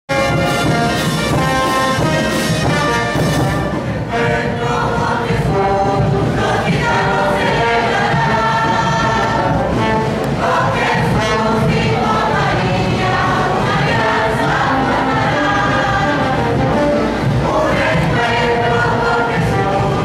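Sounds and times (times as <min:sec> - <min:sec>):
brass band playing a hymn: 0:00.1 - 0:20.0
voices singing along: 0:03.0 - 0:20.0.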